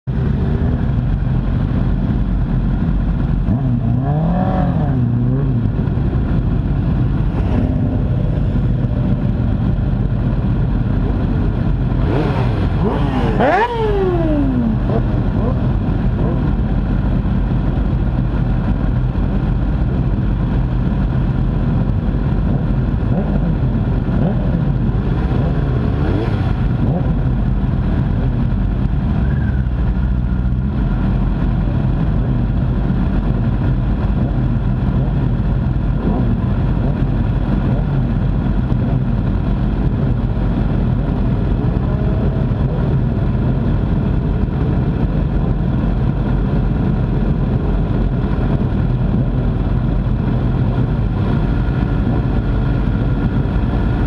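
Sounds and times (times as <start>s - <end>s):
motorcycle engine revving: 0.1s - 20.2s, 20.8s - 54.0s.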